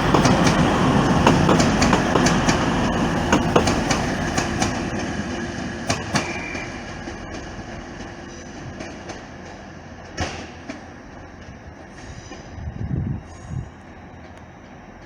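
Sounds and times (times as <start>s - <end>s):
train wheels clicking over rail joints: 0.0s - 12.6s
train rumble: 0.0s - 15.0s.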